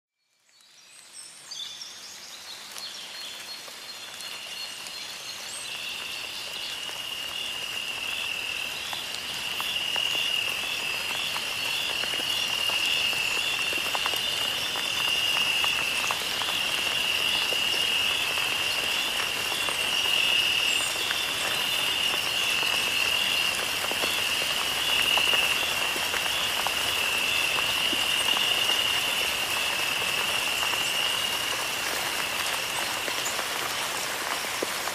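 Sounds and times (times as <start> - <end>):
soft rain-like hiss: 0.2 - 34.9
insects and frogs calling: 1.9 - 34.9.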